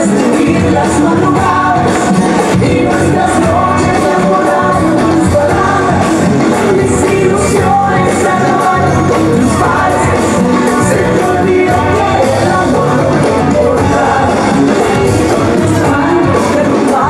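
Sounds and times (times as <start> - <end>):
loud live music over speakers: 0.0 - 17.0
woman singing into microphone: 0.0 - 17.0.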